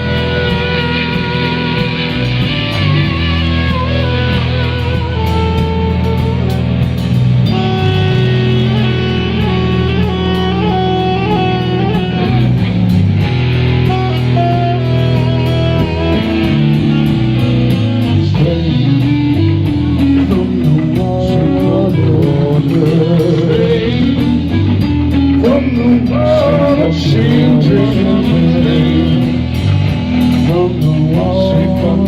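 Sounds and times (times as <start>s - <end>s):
guitar holding long lead notes: 0.0s - 32.0s
live rock band playing: 0.0s - 32.0s.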